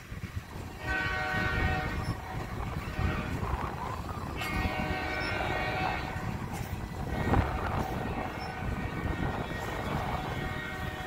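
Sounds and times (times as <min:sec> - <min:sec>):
steel wheels rumbling on rails: 0:00.0 - 0:11.0.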